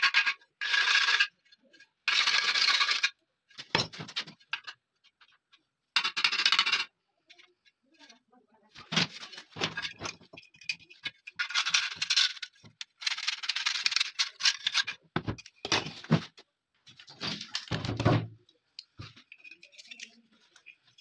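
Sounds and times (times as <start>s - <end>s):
metal parts rattling and scraping: 0.0s - 8.2s, 8.8s - 21.0s.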